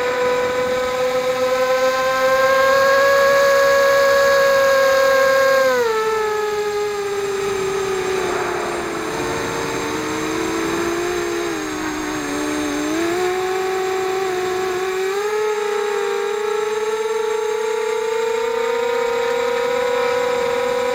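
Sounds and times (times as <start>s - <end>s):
drone motors whining: 0.0s - 20.9s.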